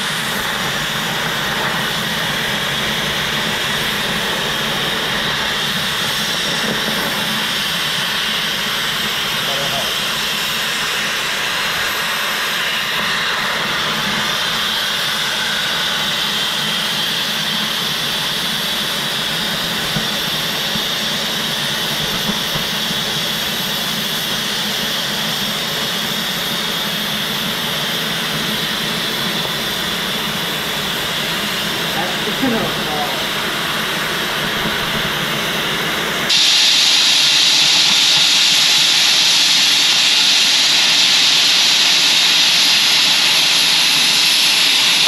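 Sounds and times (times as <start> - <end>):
cutting torch hissing: 0.0 - 45.0.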